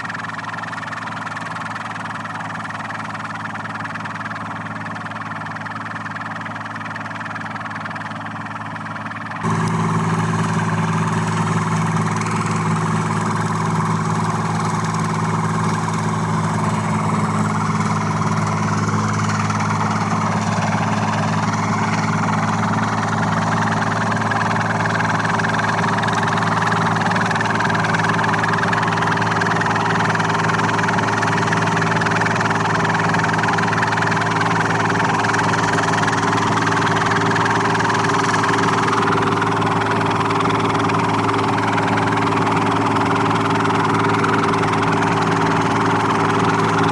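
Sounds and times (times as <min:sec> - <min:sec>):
heavy machine engine running: 0:00.0 - 0:46.9.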